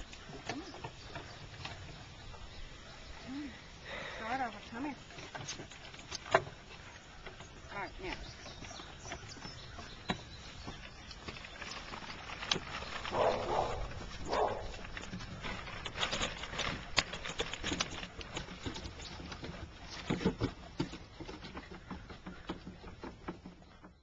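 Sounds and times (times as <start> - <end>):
paws pattering on wooden boards: 3.9 - 24.0.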